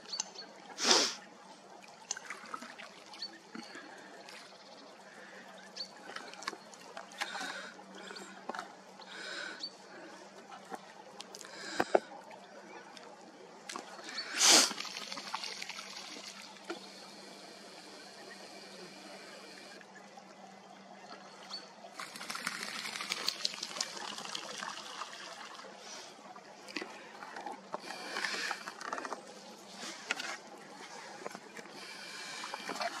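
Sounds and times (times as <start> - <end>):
water trickling and lapping: 0.0 - 33.0.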